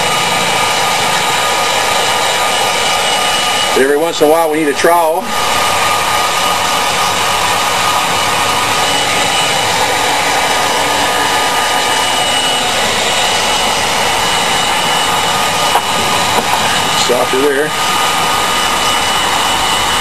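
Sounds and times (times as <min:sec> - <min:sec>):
heat gun fan blowing: 0:00.0 - 0:20.0.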